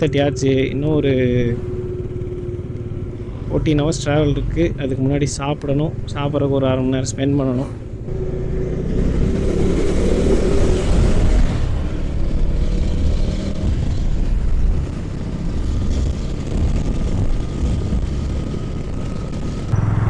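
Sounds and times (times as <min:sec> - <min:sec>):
motorcycle engine: 0:00.0 - 0:05.2, 0:07.3 - 0:20.0
road noise: 0:00.0 - 0:20.0.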